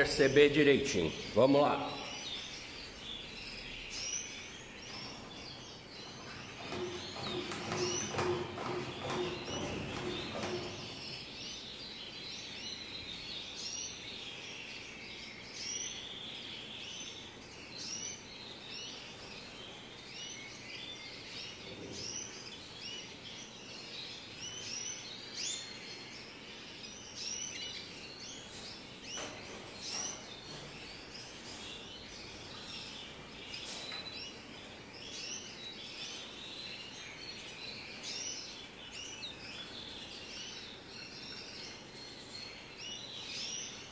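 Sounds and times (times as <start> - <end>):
canaries chirping and trilling: 0.0 - 43.9.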